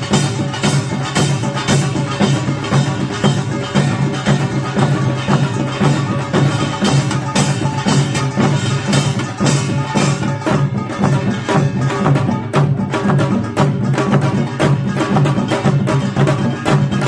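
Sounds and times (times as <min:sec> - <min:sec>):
barrel drum strokes: 0:00.0 - 0:17.0
hourglass drum strokes: 0:00.0 - 0:17.0
small gong clanging: 0:00.0 - 0:17.0.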